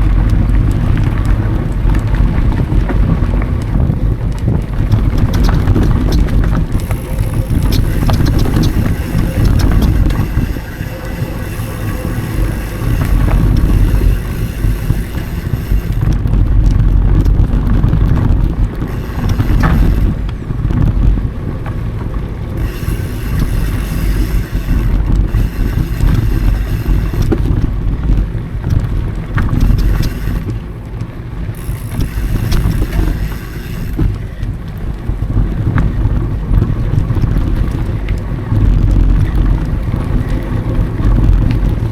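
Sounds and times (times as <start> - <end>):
bike clicks and rattles: 0.0 - 41.9
bike tyres rolling on dirt: 0.0 - 41.9
wind buffeting microphone: 0.0 - 41.9.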